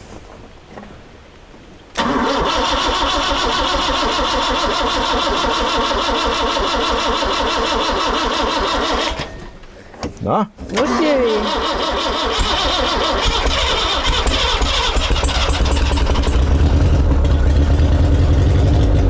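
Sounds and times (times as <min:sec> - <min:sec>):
starter motor cranking engine: 0:02.0 - 0:09.4, 0:10.7 - 0:19.0.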